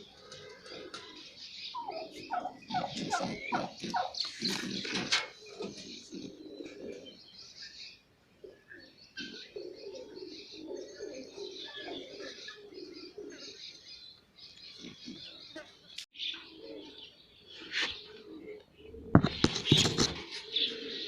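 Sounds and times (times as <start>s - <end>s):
pigeons cooing: 0.0s - 7.4s, 8.4s - 14.0s, 14.6s - 15.6s, 16.2s - 21.0s.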